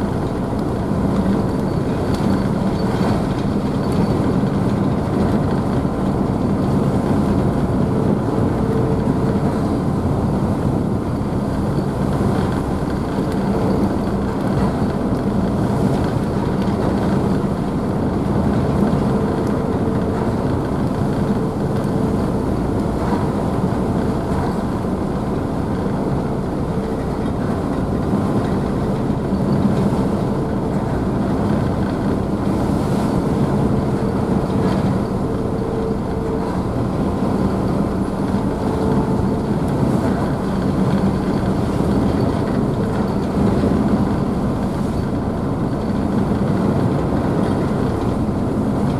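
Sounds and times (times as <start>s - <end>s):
ship engines humming: 0.0s - 48.8s
water rushing in boat wake: 0.0s - 48.9s.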